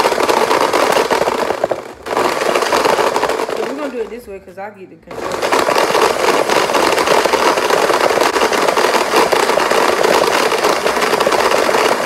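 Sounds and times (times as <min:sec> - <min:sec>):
blender motor whirring: 0:00.0 - 0:04.2, 0:05.1 - 0:12.0.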